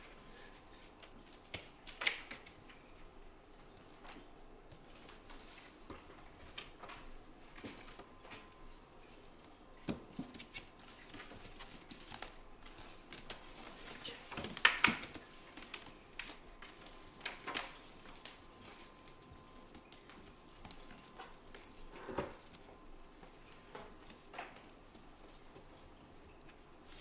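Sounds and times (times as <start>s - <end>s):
kittens scuffling: 3.6s - 27.0s.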